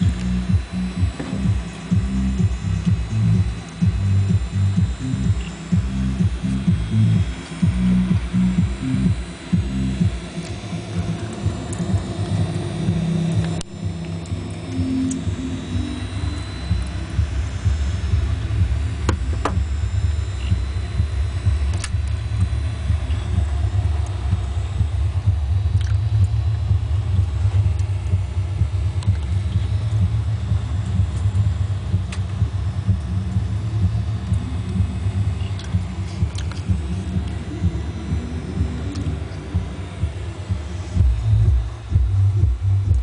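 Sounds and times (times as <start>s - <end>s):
computer fans droning: 0.0s - 43.0s.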